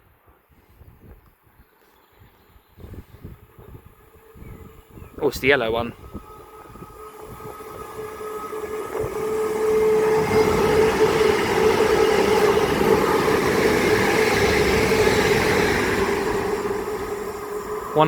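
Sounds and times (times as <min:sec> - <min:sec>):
train wheels rushing on rail: 0:03.5 - 0:18.0.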